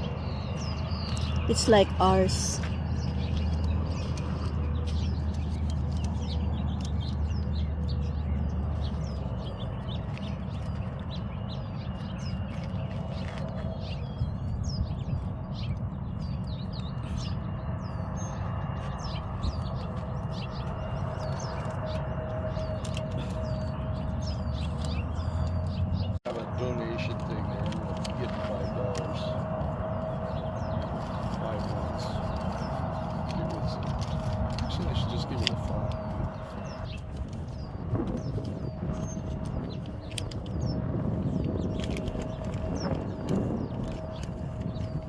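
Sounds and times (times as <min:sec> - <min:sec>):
low background rumble: 0:00.0 - 0:45.0
small birds chirping: 0:00.0 - 0:45.0.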